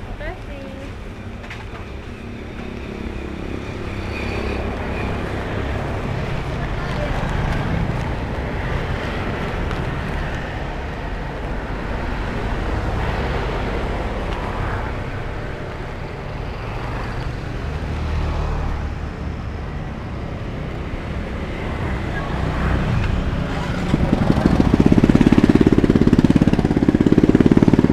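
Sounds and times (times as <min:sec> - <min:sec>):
motorbikes and cars passing: 0:00.0 - 0:27.9.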